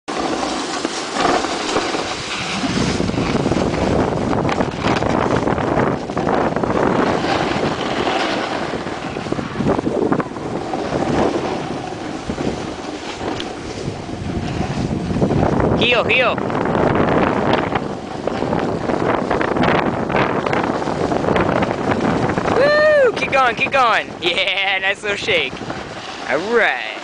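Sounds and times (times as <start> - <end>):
snowboard scraping on snow: 0.1 - 27.0
wind rushing over microphone: 0.1 - 27.0.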